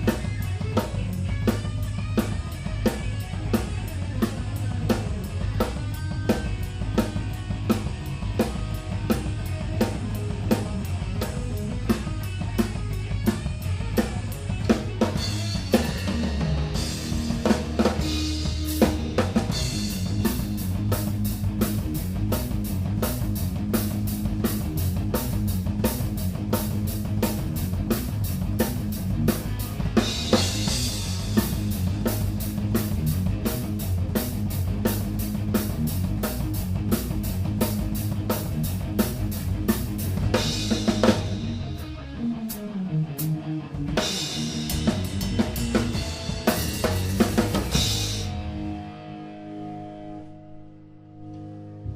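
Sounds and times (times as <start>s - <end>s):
bass drum and snare hits: 0.0s - 41.8s, 44.3s - 48.6s
rock band playing live: 0.0s - 51.9s.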